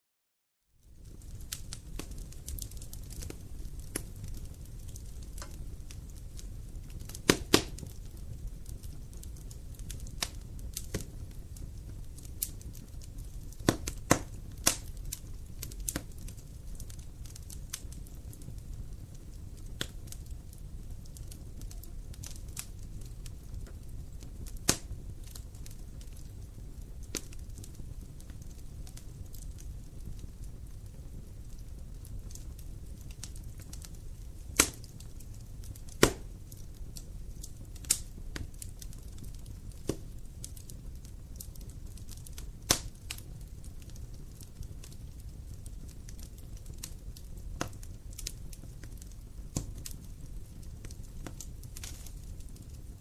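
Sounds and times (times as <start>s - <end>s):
wood fire crackling: 0.7s - 53.0s.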